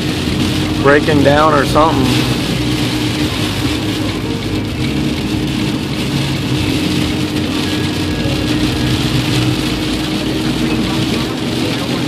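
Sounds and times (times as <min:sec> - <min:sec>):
car engine hum: 0:00.0 - 0:12.0
heavy rain on a car: 0:00.0 - 0:12.0.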